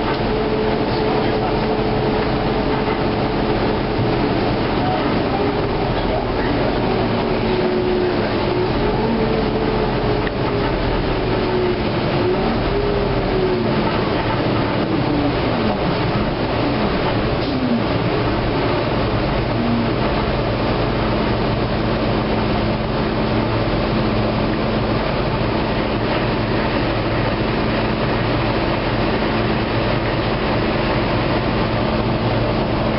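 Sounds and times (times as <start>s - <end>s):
bus engine and road rumble: 0.0s - 32.9s.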